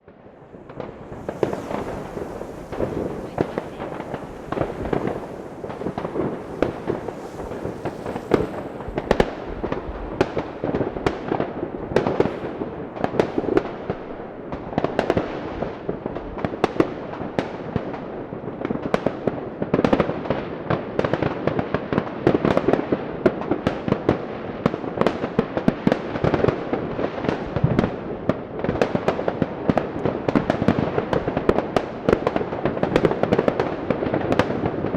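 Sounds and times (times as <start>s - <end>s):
fireworks and firecrackers barrage: 0.0s - 34.9s.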